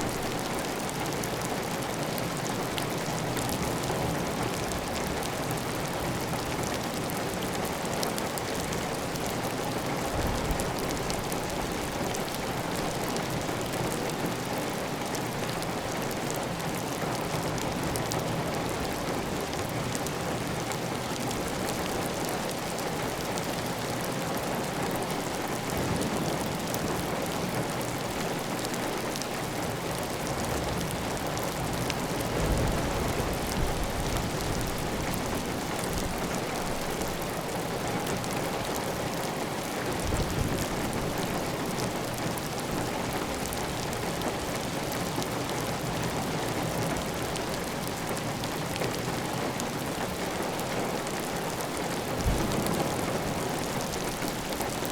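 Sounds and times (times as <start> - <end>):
heavy rain on a tile roof: 0.0 - 54.9.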